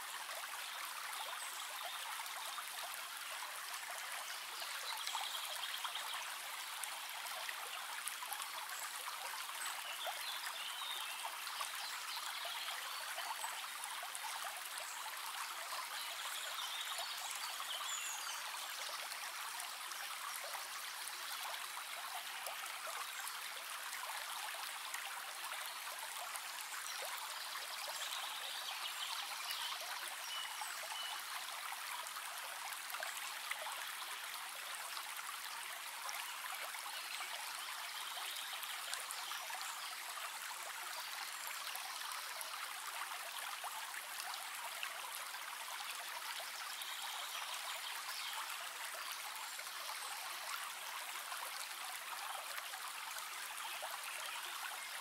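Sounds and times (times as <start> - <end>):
stream rippling over pebbles: 0.0 - 55.0.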